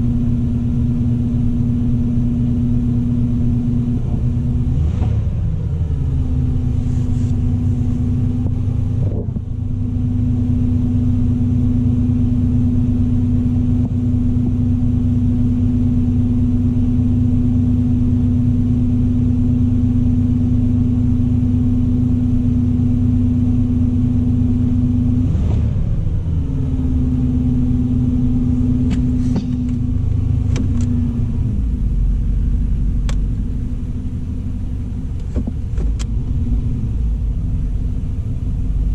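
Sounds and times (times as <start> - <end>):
car engine idling: 0.0 - 25.2, 25.8 - 38.9.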